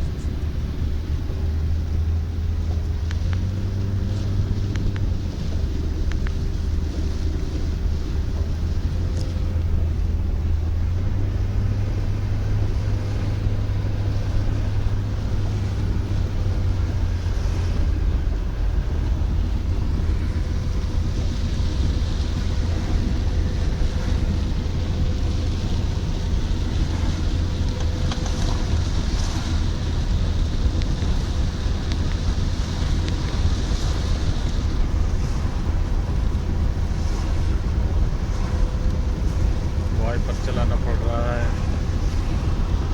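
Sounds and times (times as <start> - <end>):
car engine and tyres rumbling: 0.0 - 42.9
rain and wet road hiss: 0.0 - 42.9.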